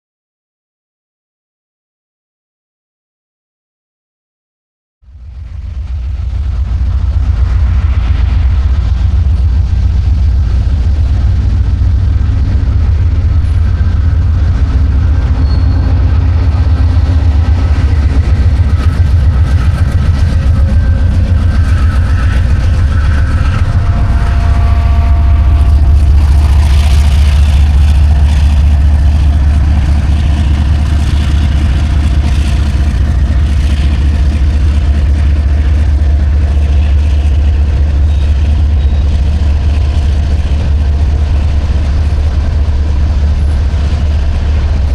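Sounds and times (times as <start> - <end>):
locomotive engine rumble: 5.1 - 44.9
train rattle and hiss: 5.1 - 44.9.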